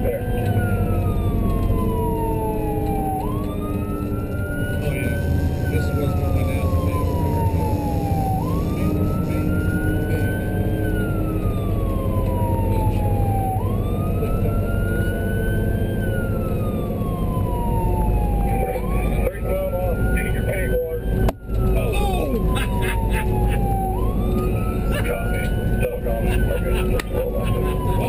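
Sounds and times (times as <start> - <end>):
engine and tyre rumble: 0.0 - 28.0
siren wailing: 0.0 - 28.0.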